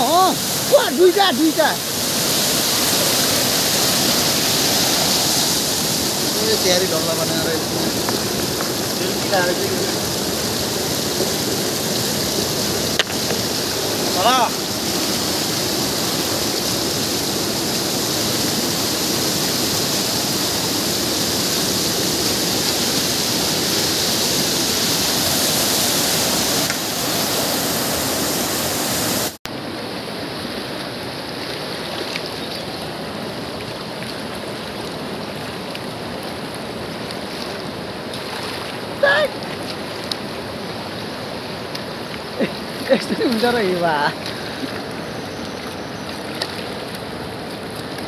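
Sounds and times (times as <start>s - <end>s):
river rapids rushing over rocks: 0.0s - 48.0s
soft river current flow: 0.0s - 48.0s.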